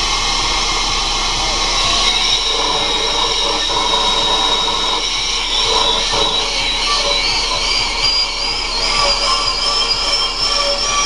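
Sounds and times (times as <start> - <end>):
rock drill hissing and whining: 0.0 - 11.0.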